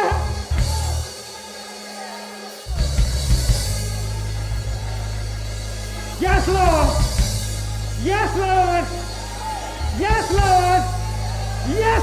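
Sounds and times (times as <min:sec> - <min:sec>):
drums and bass: 0:00.0 - 0:01.4, 0:02.6 - 0:12.0
live worship band music: 0:00.0 - 0:12.0.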